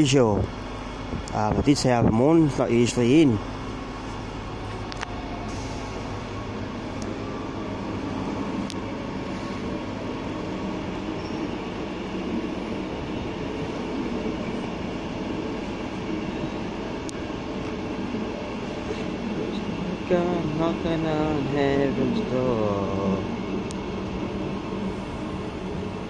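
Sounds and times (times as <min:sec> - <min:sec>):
train humming: 0:00.0 - 0:26.0.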